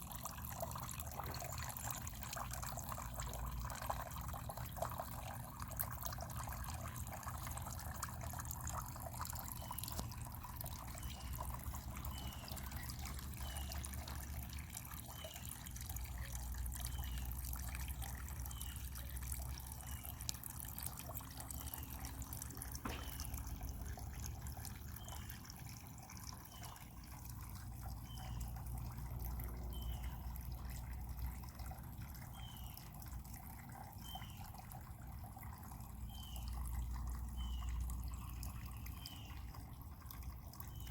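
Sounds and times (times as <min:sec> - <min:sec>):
water dripping: 0:00.0 - 0:40.9.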